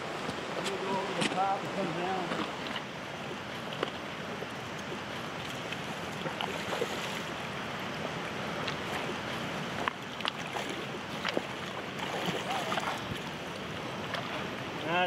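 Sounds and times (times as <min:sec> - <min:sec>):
fast-flowing river rushing: 0:00.0 - 0:15.0.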